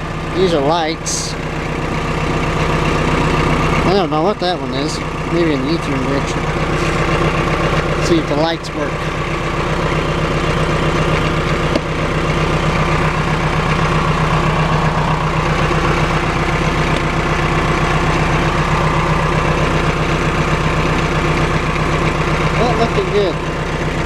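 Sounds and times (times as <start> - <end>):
tractor diesel engine idling: 0.0 - 24.0.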